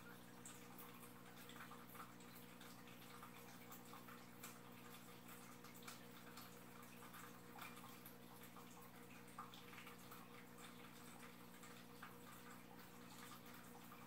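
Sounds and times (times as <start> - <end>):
low steady filter hum: 0.0 - 14.0
small ticks: 0.0 - 14.0
water trickling and dripping: 0.0 - 14.0.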